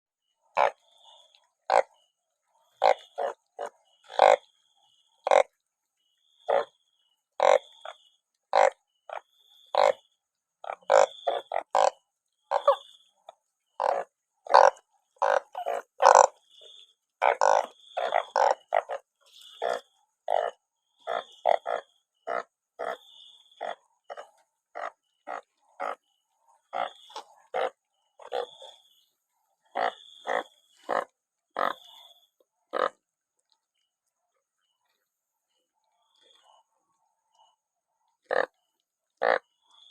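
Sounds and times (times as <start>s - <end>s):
frogs croaking: 0.2s - 39.9s.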